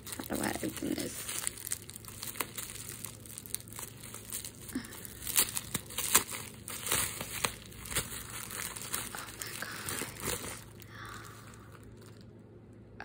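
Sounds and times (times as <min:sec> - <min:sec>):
bubble wrap crinkling: 0:00.0 - 0:12.4.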